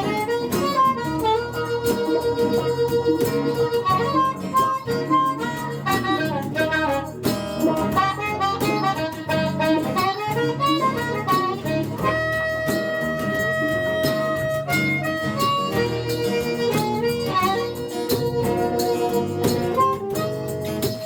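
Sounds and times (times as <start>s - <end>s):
blues harmonica solo: 0.0s - 21.0s
strummed guitar: 0.0s - 21.0s.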